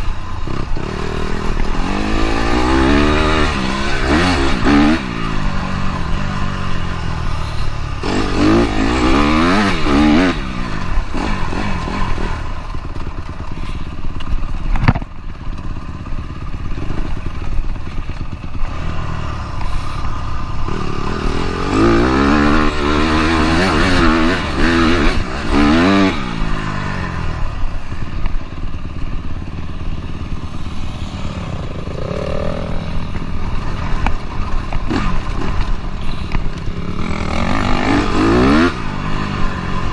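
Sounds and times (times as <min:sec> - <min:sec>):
dirt bike engine revving: 0:00.0 - 0:14.6, 0:15.2 - 0:39.9.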